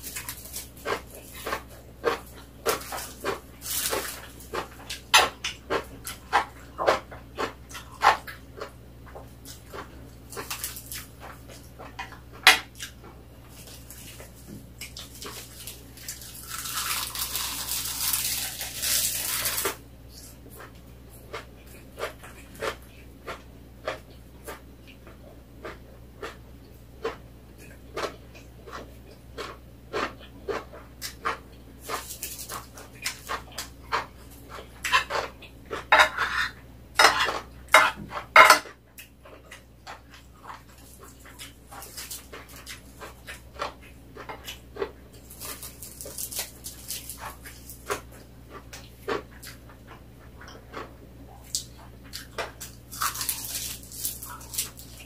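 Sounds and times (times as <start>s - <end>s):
chewing and lip-smacking: 0.0s - 36.6s, 38.9s - 55.0s.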